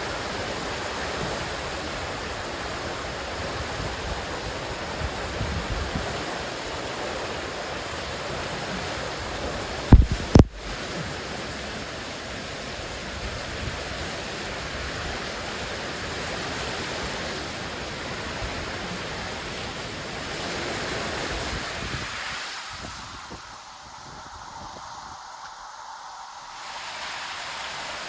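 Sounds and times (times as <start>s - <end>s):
heavy wind and rain: 0.0s - 28.0s.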